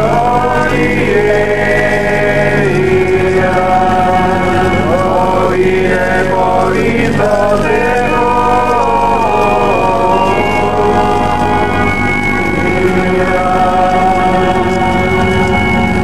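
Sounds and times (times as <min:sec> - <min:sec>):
liturgical chant: 0:00.0 - 0:16.0
steady low drone: 0:00.0 - 0:16.0.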